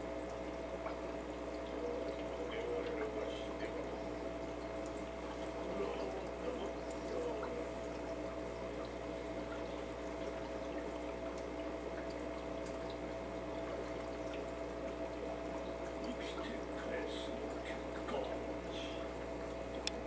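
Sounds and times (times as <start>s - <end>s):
filter hum: 0.0s - 20.0s.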